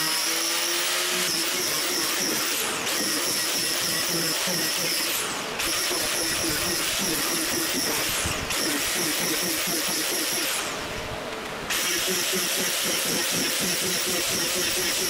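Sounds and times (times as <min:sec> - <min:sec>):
angle grinder cutting fiberglass: 0:00.0 - 0:11.0, 0:11.7 - 0:15.0.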